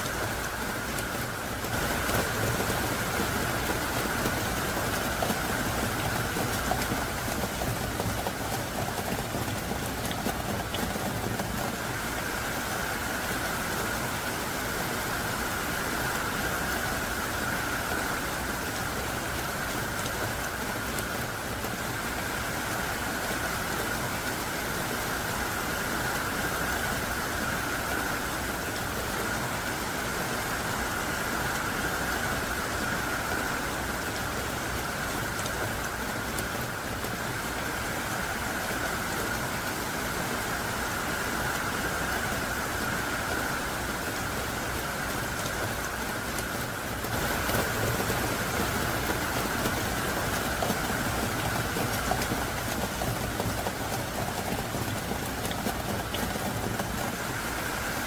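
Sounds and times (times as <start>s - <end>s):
heavy rain splashing: 0.0s - 58.0s.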